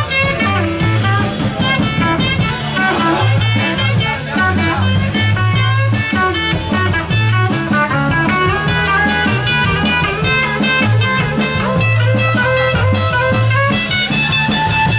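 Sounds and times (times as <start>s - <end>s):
drum kit: 0.0s - 14.9s
electric bass line: 0.0s - 14.9s
electric guitar: 0.0s - 14.9s.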